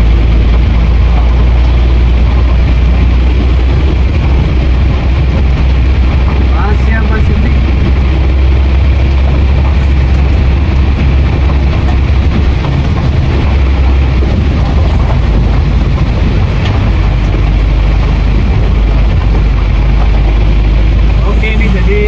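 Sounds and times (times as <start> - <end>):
heavy rain and wet road noise: 0.0 - 22.0
truck diesel engine droning: 0.0 - 22.0.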